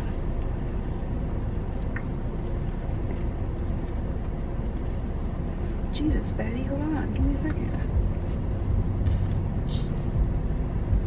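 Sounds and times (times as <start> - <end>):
car engine and cabin noise: 0.0 - 11.0.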